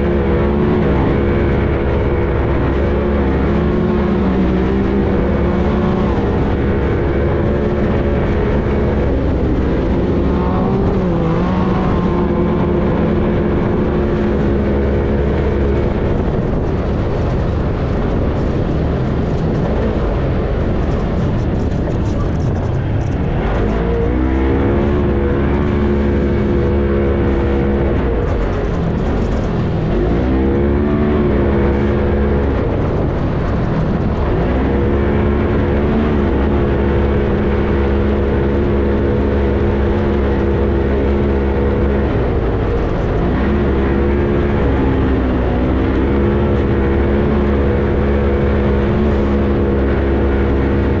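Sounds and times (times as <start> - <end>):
engine revving hard: 0.0 - 16.6, 23.2 - 51.0.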